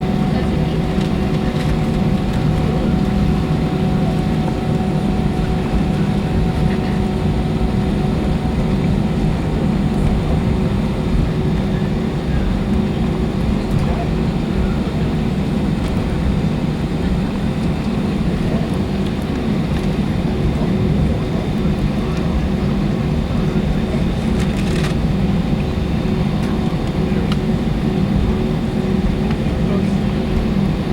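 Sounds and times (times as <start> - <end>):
jet engines running: 0.0 - 30.9.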